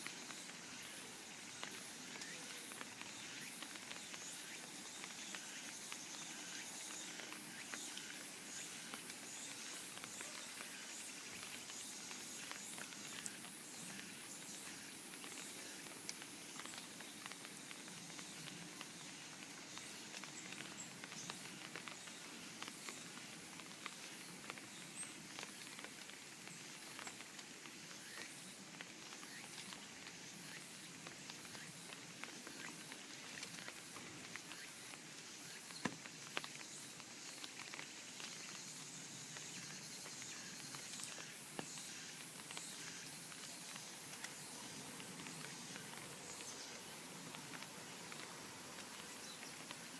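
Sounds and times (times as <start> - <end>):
rain pattering: 0.0 - 49.9
cicadas hissing: 0.1 - 24.6, 29.2 - 49.9.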